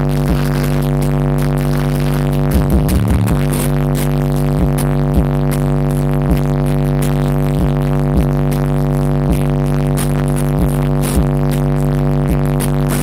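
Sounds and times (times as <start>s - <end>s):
electronic music with buzzing bass: 0.0s - 13.0s.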